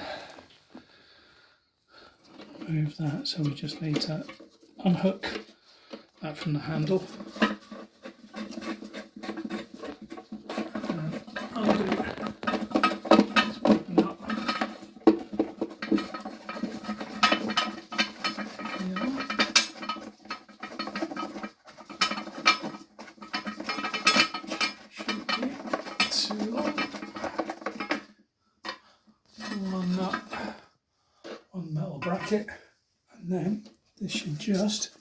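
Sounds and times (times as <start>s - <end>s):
plastic and metal parts clattering: 2.1s - 30.6s, 31.3s - 32.6s.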